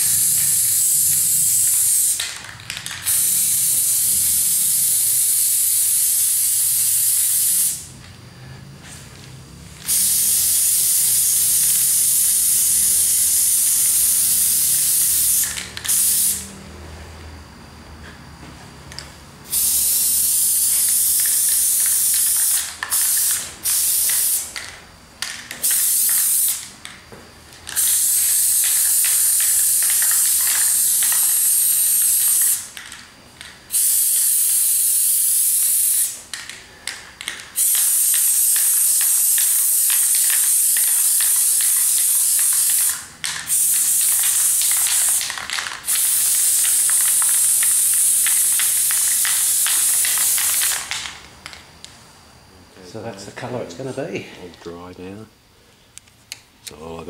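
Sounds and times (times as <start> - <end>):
spray paint can hissing: 0.0 - 7.9, 9.8 - 16.6, 19.4 - 26.7, 27.7 - 51.6.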